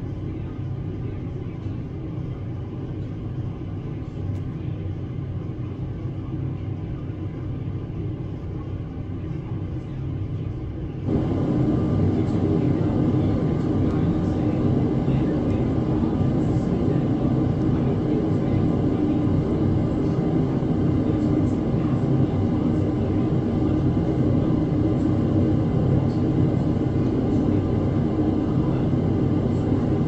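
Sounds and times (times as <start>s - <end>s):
helicopter rumble: 0.0s - 30.0s.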